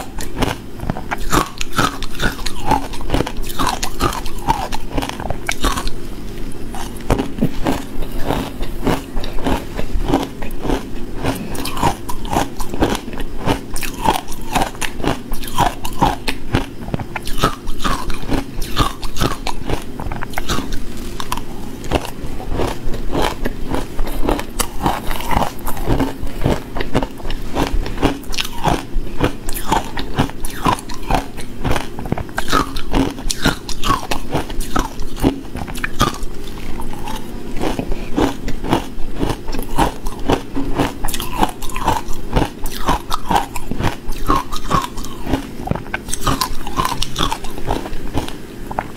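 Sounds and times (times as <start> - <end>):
ice being chewed: 0.0 - 48.9.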